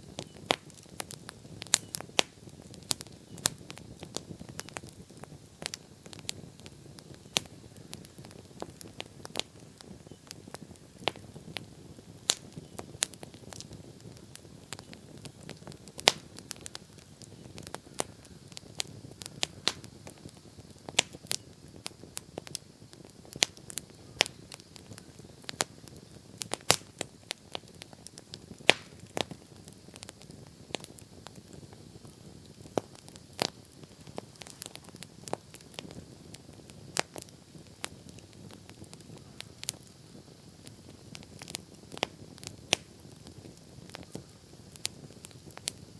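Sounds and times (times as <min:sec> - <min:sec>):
bonfire crackling and popping: 0:00.0 - 0:45.9
low rush of flames: 0:00.0 - 0:45.9.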